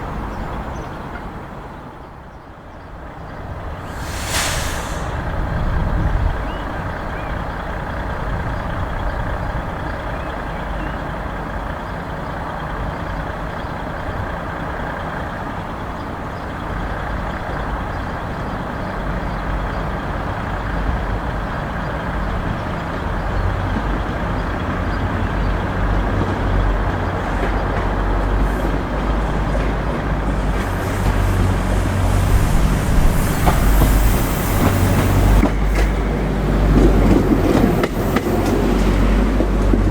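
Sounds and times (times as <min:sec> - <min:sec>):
diesel train rumbling: 0:00.0 - 0:39.9.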